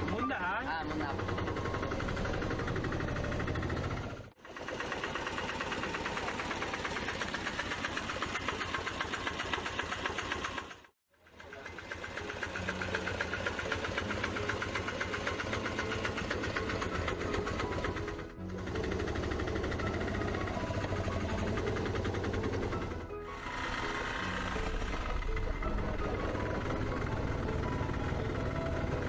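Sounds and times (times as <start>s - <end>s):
auto-rickshaw engine knocking: 0.0s - 29.0s.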